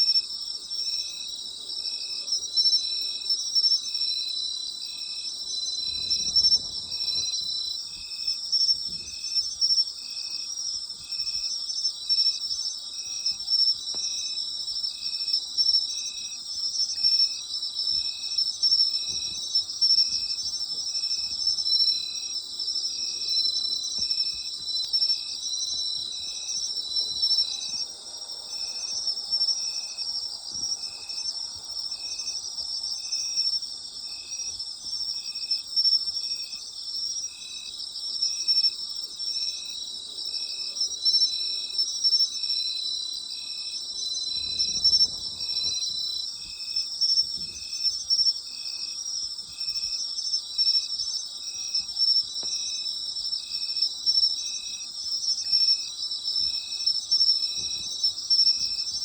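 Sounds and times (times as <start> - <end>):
crickets trilling: 0.0 - 59.0
low-pitched insect chirping: 0.0 - 59.0.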